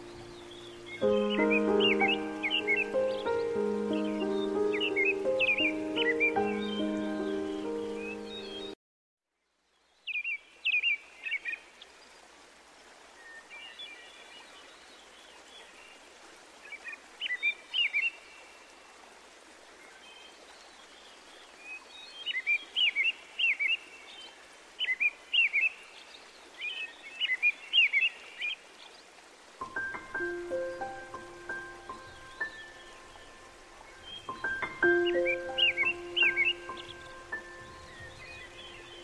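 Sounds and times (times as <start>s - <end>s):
songbird chirping: 0.0s - 8.8s, 9.4s - 19.0s, 19.6s - 39.0s.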